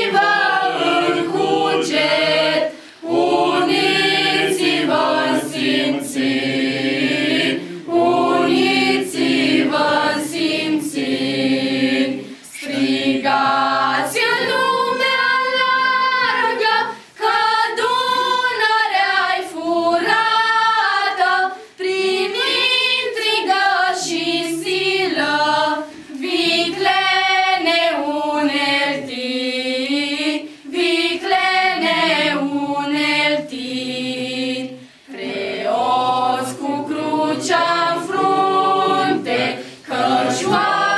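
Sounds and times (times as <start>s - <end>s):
female choir singing: 0.0s - 40.9s.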